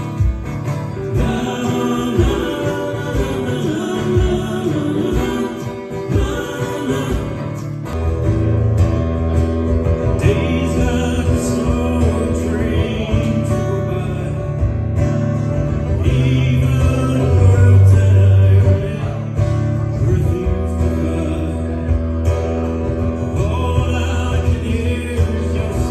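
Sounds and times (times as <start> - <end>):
person singing: 0.0 - 8.0, 9.9 - 15.2, 15.8 - 25.9
guitar: 0.0 - 25.9
steady bass: 0.0 - 25.9.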